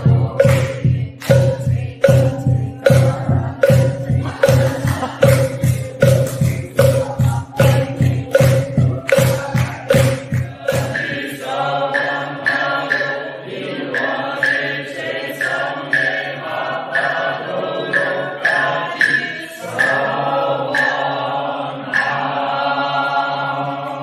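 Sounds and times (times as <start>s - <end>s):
group chanting in unison: 0.0s - 24.0s.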